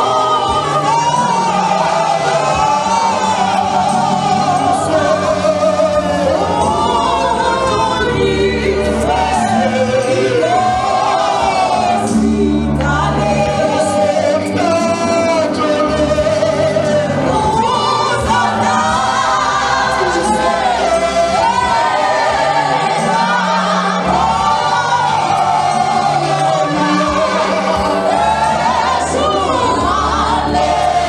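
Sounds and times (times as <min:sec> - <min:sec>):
choir singing: 0:00.0 - 0:31.0
instrumental backing: 0:00.0 - 0:31.0.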